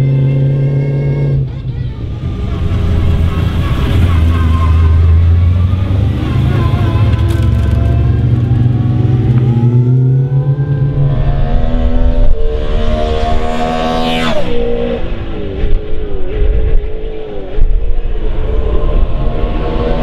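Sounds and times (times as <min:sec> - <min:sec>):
race car engine revving: 0:02.1 - 0:20.0.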